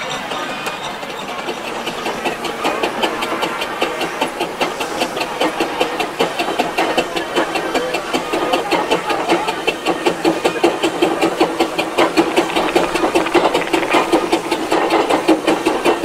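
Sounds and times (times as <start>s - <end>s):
steam engine chuffing: 0.0s - 16.0s
mechanical clatter: 0.2s - 16.0s
hiss of steam: 0.9s - 16.0s.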